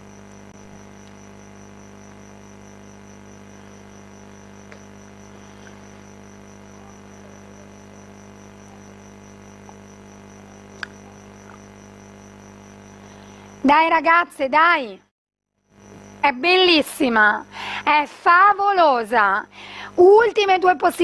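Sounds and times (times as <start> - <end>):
electrical mains hum: 0.0 - 15.0, 15.7 - 21.0.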